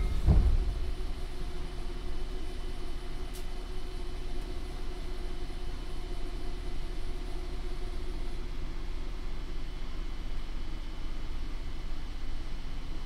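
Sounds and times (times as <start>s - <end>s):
train car low hum: 0.0s - 13.0s.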